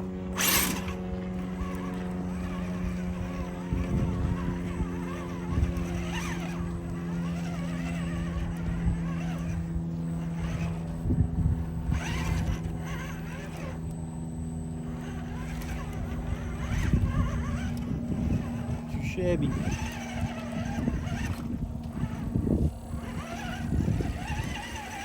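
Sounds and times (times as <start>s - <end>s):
electric motor and drivetrain running: 0.0s - 25.0s.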